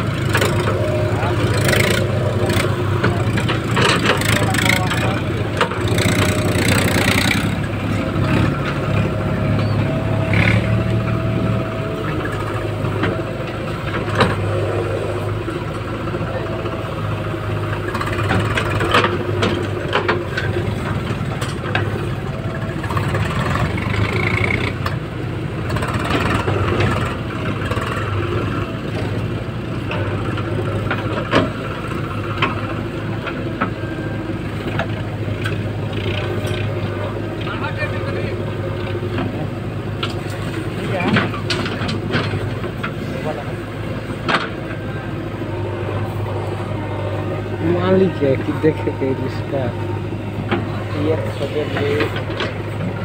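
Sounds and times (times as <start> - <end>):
backhoe diesel engine running: 0.0 - 53.0.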